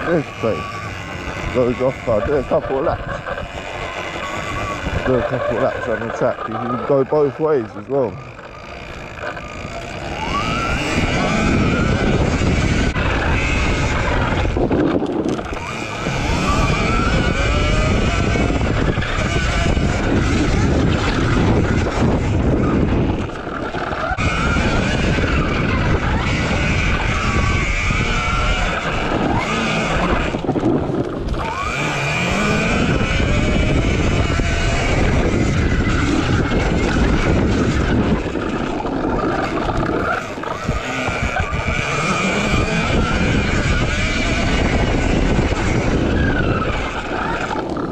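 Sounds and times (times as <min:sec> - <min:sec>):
electric motor whine: 0:00.0 - 0:47.9
tyre noise: 0:00.0 - 0:47.9
wind noise on microphone: 0:00.0 - 0:47.9.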